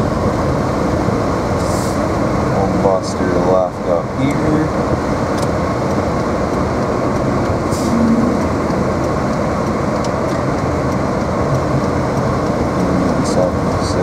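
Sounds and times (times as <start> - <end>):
heater fan blowing: 0.0 - 14.0
road and tyre rumble in car: 0.0 - 14.0.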